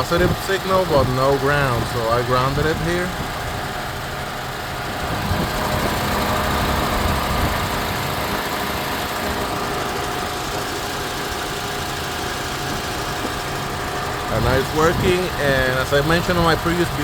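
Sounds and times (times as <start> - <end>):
car engine idling: 0.0 - 17.0
radiator cooling fan rushing: 0.0 - 17.0.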